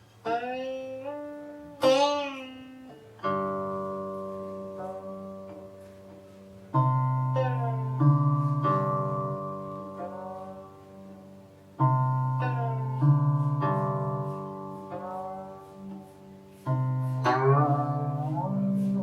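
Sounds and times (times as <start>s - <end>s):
plucked zither notes: 0.0s - 19.0s.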